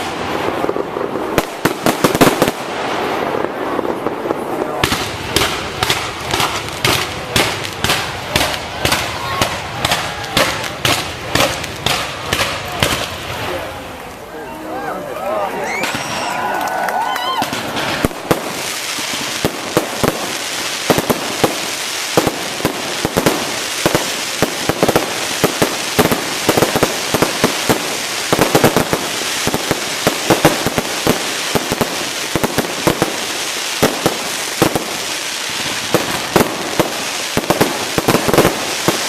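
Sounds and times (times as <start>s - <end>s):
fireworks bangs: 0.0s - 14.3s, 15.3s - 39.0s.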